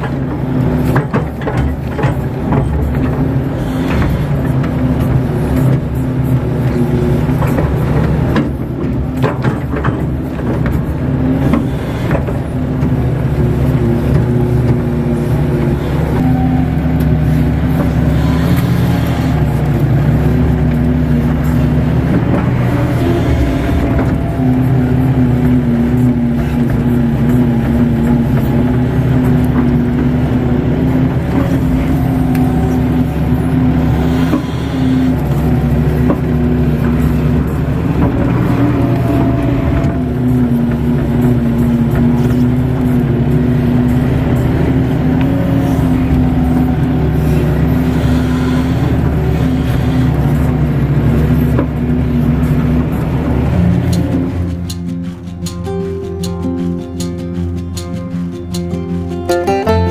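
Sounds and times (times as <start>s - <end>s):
hydraulic whine: 0.0s - 55.7s
excavator diesel engine running: 0.0s - 59.9s.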